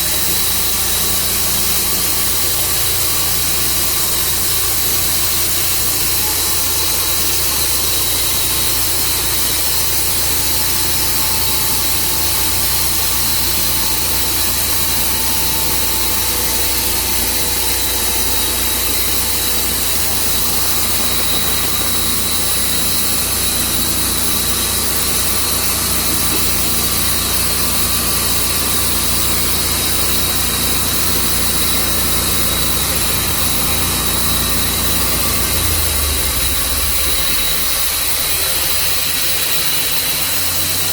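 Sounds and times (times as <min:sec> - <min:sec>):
sawmill engine drone with hiss: 0:00.0 - 0:40.9.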